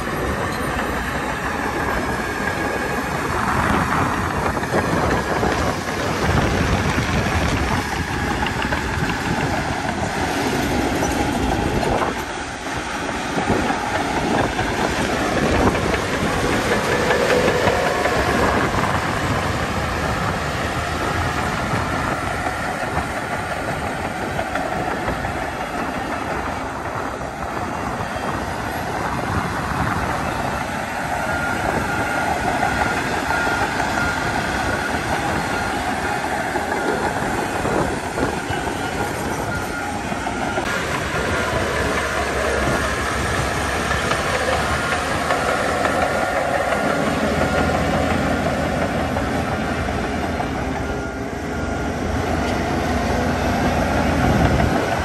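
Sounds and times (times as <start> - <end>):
bulldozer engine under load: 0.0 - 55.0
steel tracks clattering: 0.0 - 55.0.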